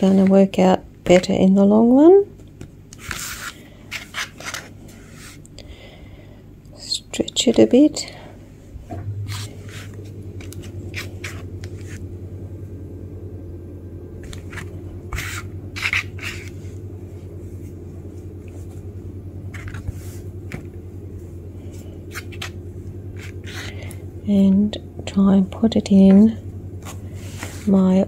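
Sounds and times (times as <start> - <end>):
low hum: 4.6 - 28.0.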